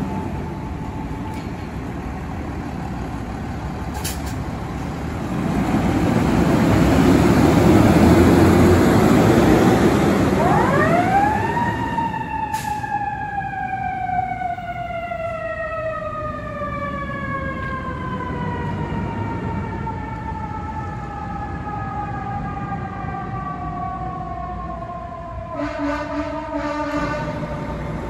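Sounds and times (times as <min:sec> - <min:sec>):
fire engine siren winding down: 0:00.0 - 0:28.0
road noise: 0:00.0 - 0:28.0
truck rumble: 0:00.0 - 0:28.0.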